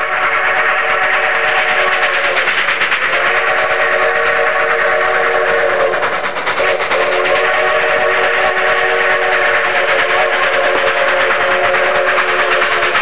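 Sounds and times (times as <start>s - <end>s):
steam locomotive whistle: 0.0s - 13.0s.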